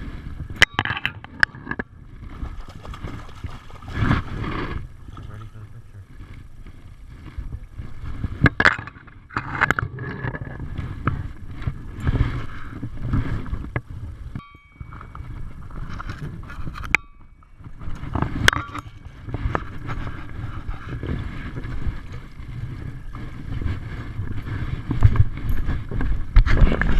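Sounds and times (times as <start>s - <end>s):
wind on microphone: 0.0s - 26.9s.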